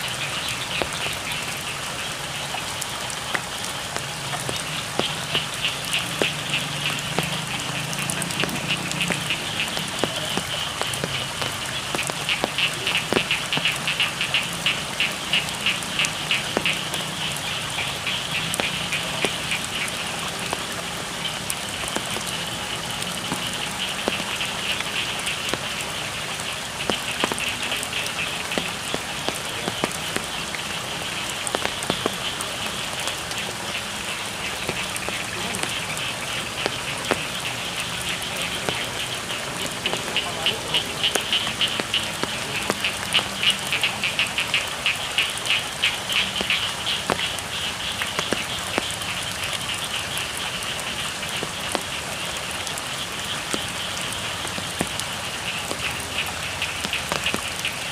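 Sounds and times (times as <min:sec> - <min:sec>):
frogs trilling: 0:00.0 - 0:57.9
steady rain: 0:00.0 - 0:57.9.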